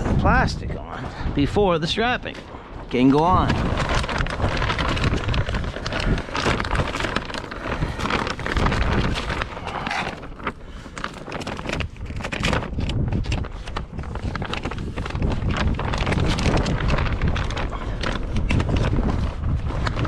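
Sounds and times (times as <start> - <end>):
gusty wind buffeting microphone: 0.0 - 20.0
plastic sheeting flapping: 0.0 - 20.0.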